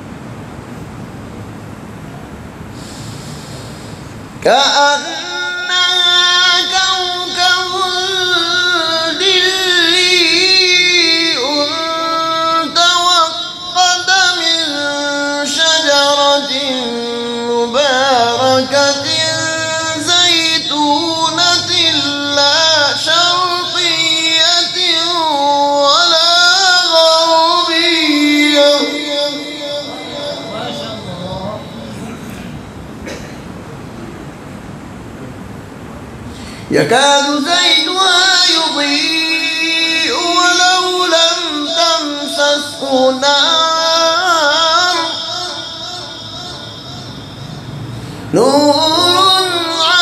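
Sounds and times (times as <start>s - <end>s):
man reciting melodically: 4.3s - 32.7s, 36.4s - 50.0s.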